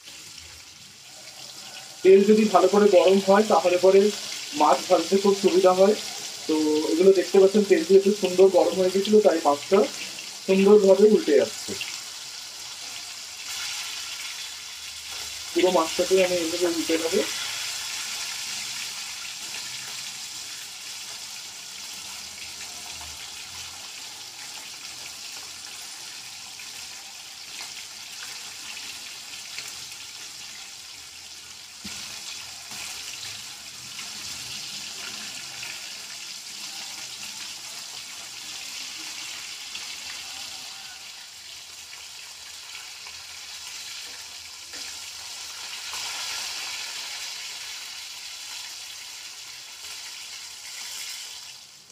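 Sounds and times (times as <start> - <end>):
fish sizzling in oil: 0.0 - 51.9.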